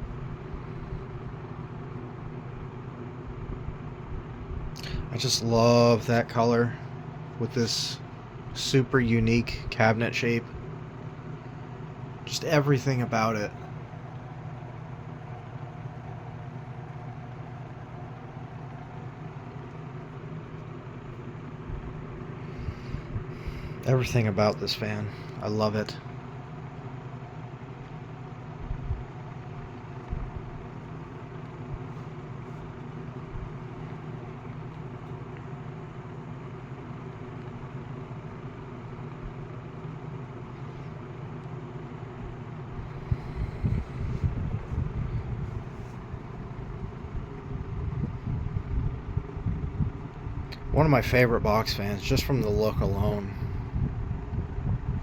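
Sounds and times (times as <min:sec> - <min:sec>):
fan motor hum: 0:00.0 - 0:55.0
whoosh of fan blades: 0:00.0 - 0:55.0.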